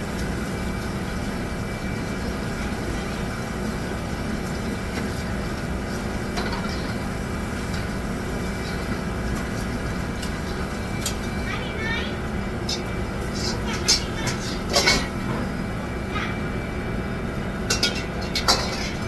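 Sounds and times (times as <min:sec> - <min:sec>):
low mechanical hum and rumble: 0:00.0 - 0:19.0.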